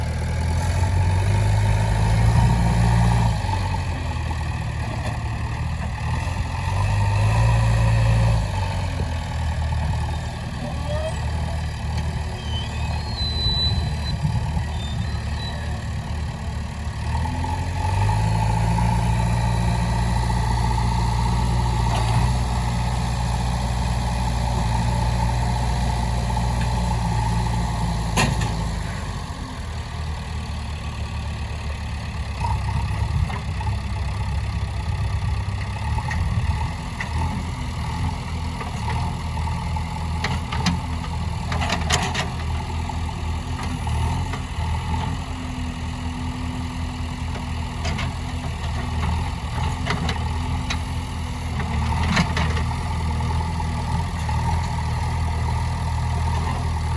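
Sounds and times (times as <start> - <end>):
backhoe loader diesel engine: 0.0 - 56.9.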